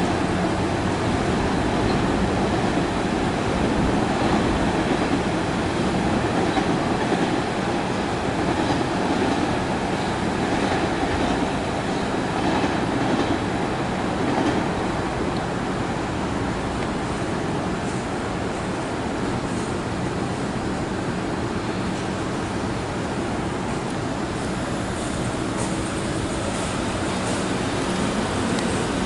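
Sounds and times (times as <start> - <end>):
train running on tracks: 0.0 - 29.0.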